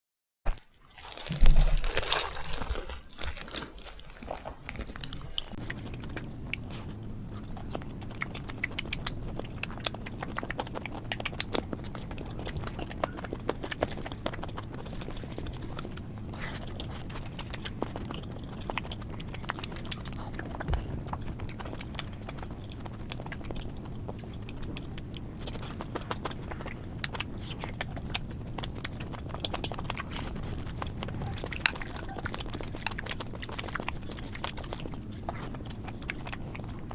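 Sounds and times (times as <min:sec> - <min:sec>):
person chewing and smacking: 0:00.5 - 0:36.9
low hum: 0:01.2 - 0:36.9.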